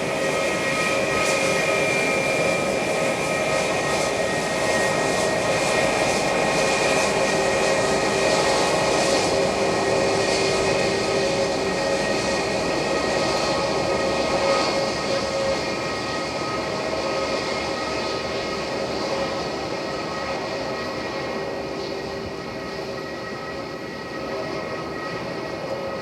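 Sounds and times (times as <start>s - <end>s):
jet engines whining: 0.0s - 26.0s.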